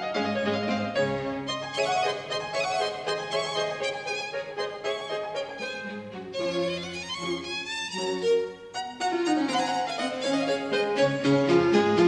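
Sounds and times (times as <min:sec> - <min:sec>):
slow violin melody: 0:00.0 - 0:12.0.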